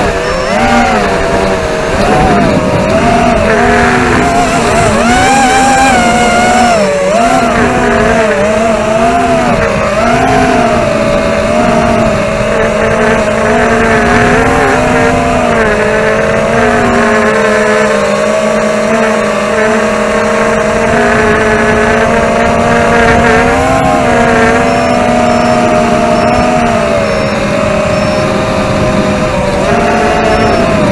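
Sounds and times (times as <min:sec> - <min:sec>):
quadcopter motors whining: 0:00.0 - 0:30.9
wind rumble on microphone: 0:00.0 - 0:30.9.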